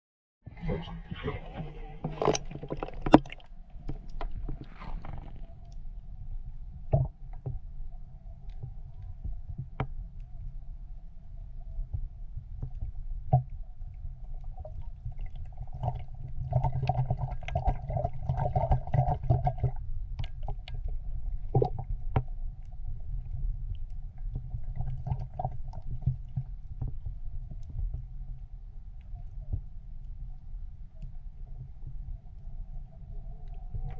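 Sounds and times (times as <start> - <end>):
underwater low rumble: 0.4 - 33.9
underwater clicks and crackles: 1.0 - 33.9.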